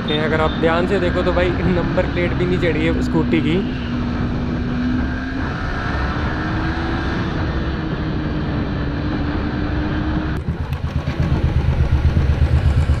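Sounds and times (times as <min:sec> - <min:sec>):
motorcycle engine cruising: 0:00.0 - 0:13.0
motorcycle engines pulsing: 0:00.0 - 0:13.0.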